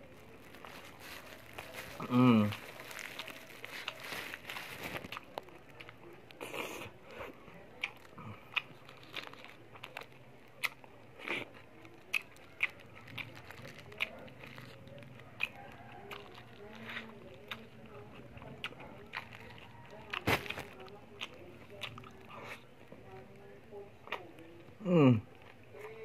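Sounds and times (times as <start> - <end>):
person chewing food: 0.0 - 22.8.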